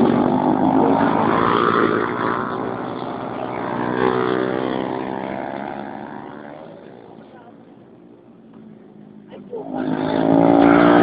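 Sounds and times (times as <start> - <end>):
racing motorcycle engines revving: 0.0 - 11.0.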